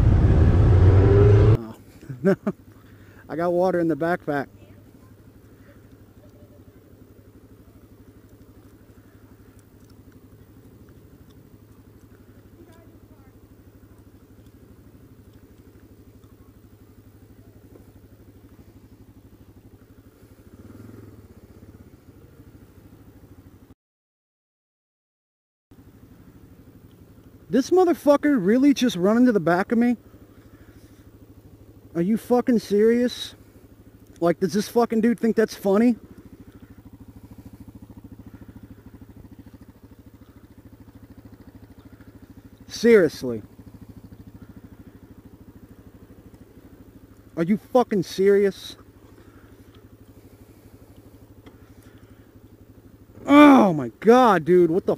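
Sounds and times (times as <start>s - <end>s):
motorcycle engine idling: 0.0s - 23.8s, 25.7s - 54.9s.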